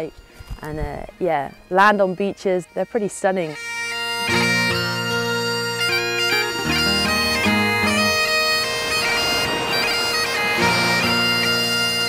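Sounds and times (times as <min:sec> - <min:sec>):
bagpipe music with drone: 0:00.0 - 0:12.0.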